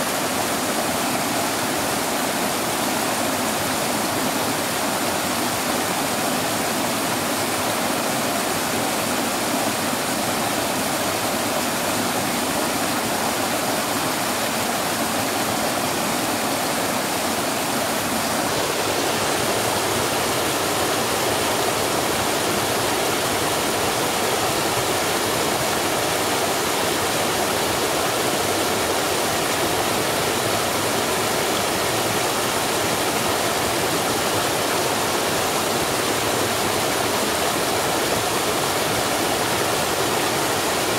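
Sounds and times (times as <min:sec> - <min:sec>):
small waterfall rushing: 0:00.0 - 0:40.9.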